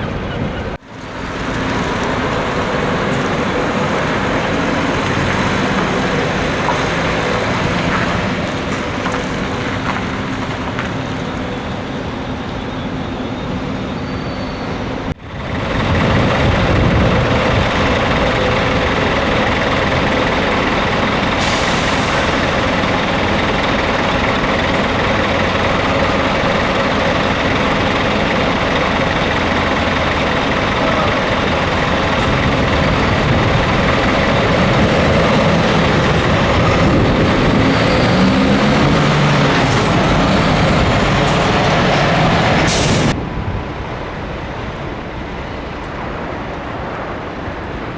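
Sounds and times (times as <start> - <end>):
truck engine and road noise: 0.0 - 47.9.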